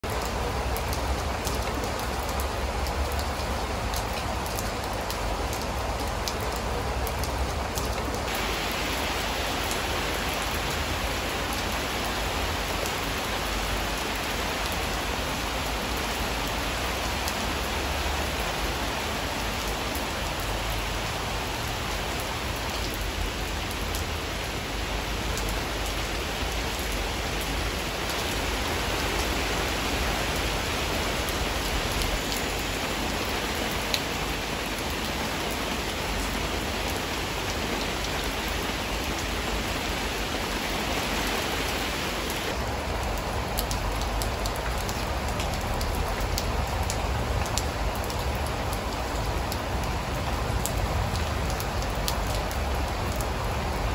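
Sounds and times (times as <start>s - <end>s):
rain on leaves: 0.0s - 53.9s.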